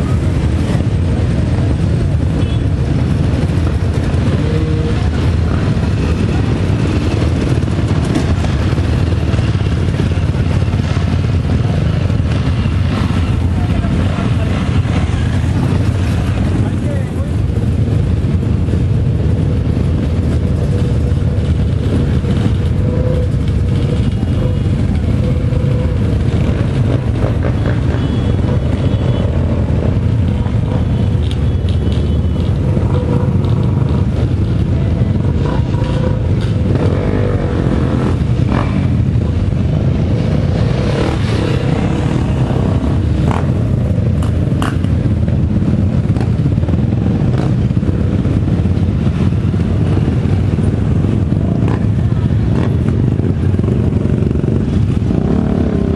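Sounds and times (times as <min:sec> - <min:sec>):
off-road motorcycle engines: 0:00.0 - 0:55.9.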